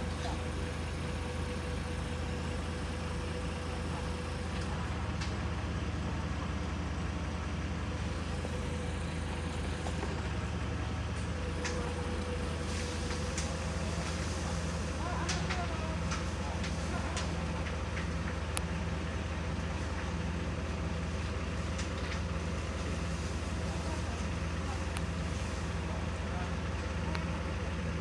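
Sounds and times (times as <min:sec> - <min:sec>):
large engine humming: 0:00.0 - 0:28.0.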